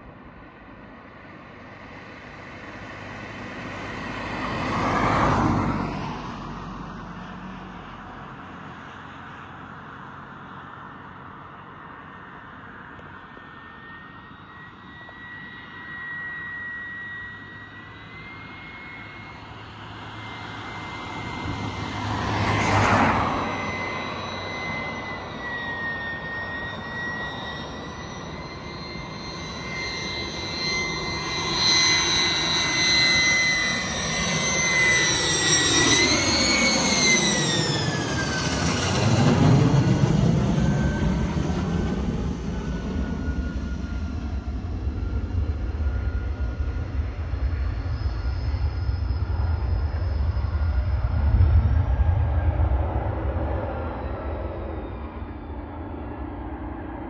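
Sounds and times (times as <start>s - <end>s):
jet engine whistle and roar: 0.0s - 57.0s.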